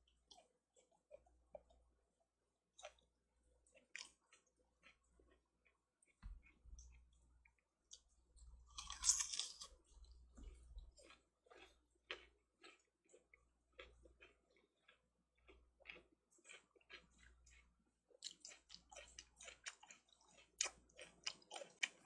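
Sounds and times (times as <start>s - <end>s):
chewing with mouth clicks: 0.0s - 2.0s, 2.8s - 22.0s.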